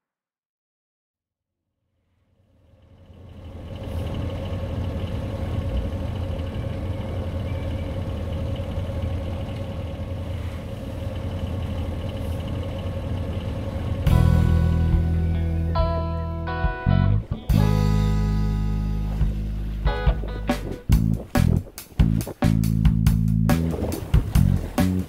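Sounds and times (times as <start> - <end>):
diesel engine rumbling with whine: 2.4 - 25.0.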